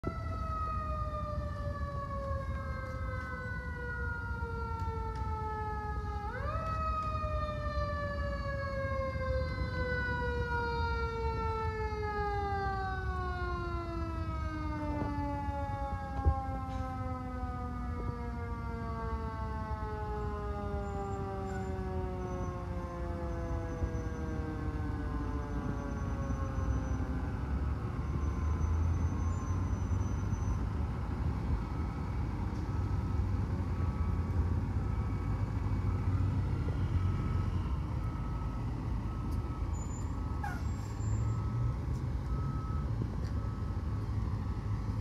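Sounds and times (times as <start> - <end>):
siren wailing: 0.0 - 45.0.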